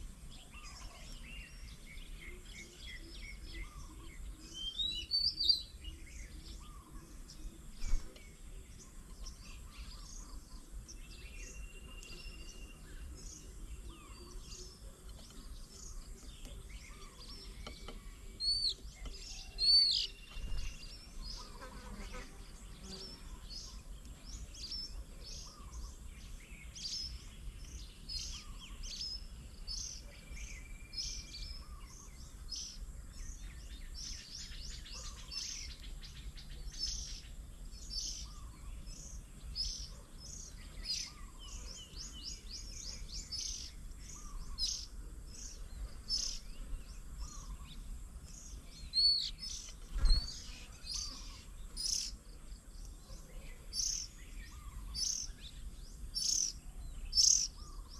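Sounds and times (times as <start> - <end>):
birds chirping and calling: 0.0 - 57.9.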